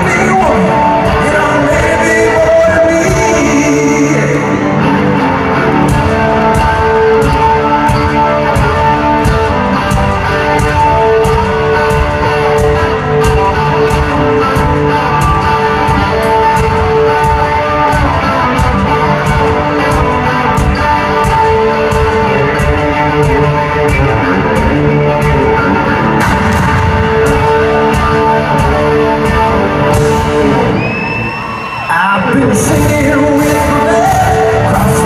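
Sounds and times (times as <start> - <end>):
steady drum beat: 0.0 - 4.4, 5.1 - 31.6
bass guitar: 0.0 - 35.0
electric guitar sustained notes: 0.0 - 35.0.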